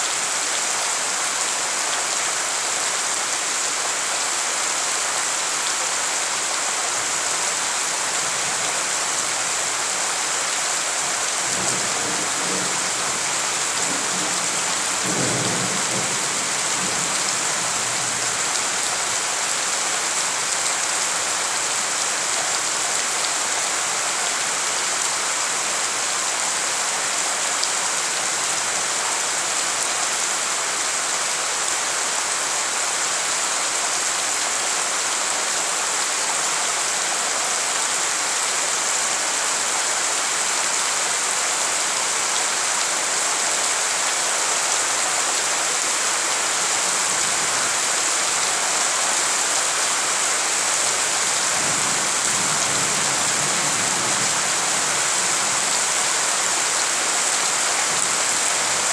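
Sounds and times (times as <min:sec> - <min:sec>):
heavy rain splashing into water: 0:00.0 - 0:58.9.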